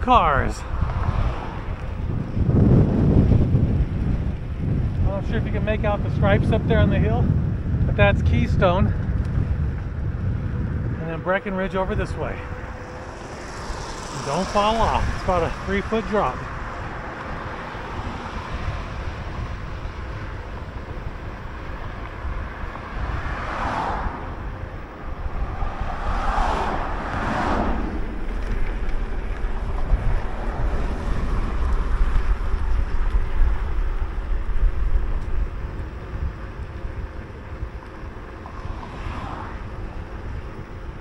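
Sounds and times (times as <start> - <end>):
cars swishing by: 0.0 - 7.2, 10.0 - 41.0
wind buffeting microphone: 0.0 - 41.0.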